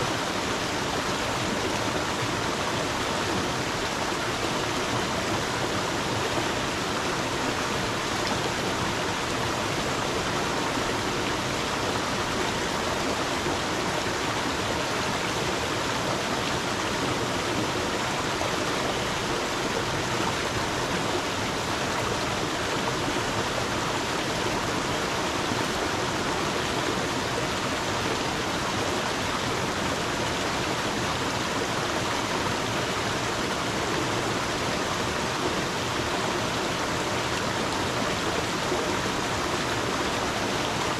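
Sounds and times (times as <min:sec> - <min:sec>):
stream of water flowing: 0:00.0 - 0:40.9.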